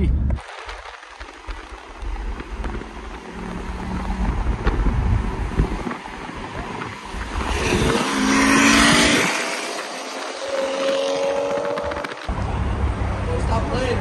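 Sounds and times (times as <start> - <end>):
rush of wind: 0.0 - 14.0
cars racing at full throttle: 0.2 - 14.0.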